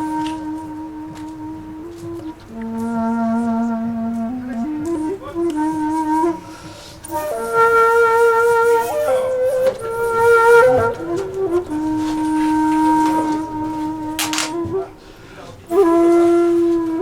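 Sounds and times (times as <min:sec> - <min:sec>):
slow flute melody: 0:00.0 - 0:17.0.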